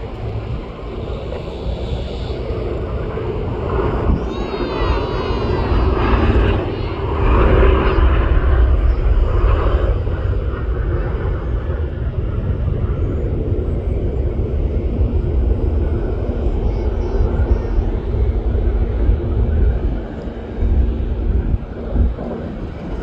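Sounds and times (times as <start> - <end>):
jet engine rumble: 0.0 - 23.0.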